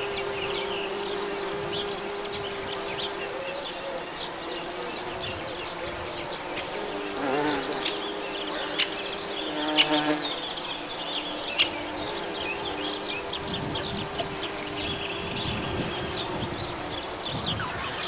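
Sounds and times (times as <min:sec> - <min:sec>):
birds twittering: 0:00.0 - 0:18.0
bumblebee buzzing: 0:00.0 - 0:18.0.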